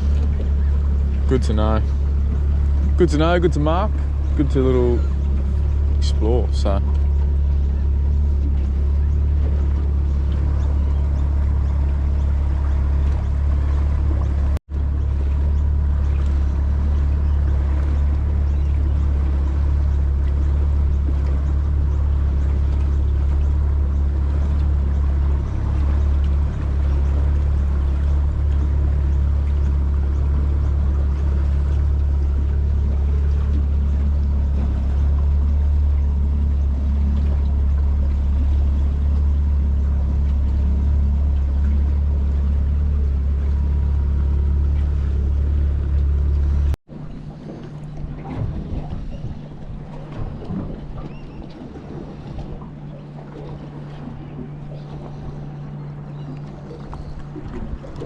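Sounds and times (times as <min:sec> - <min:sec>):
boat motor rumbling: 0:00.0 - 0:58.0.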